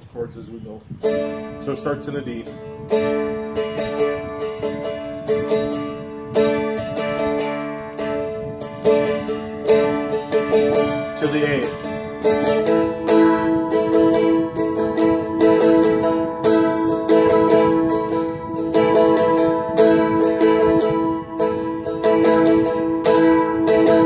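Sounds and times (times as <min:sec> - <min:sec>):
strumstick strummed: 0:00.9 - 0:24.0.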